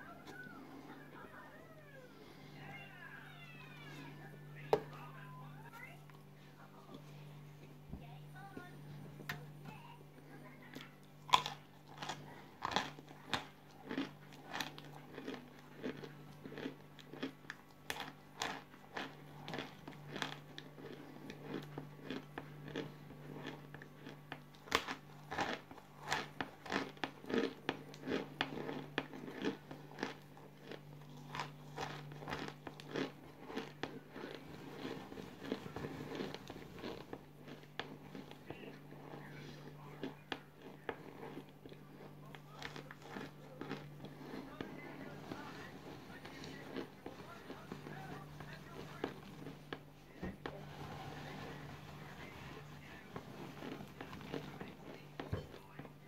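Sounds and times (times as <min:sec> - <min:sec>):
crunching and chewing: 0:00.0 - 0:07.8, 0:08.5 - 0:56.0
steady low hum: 0:00.0 - 0:56.0.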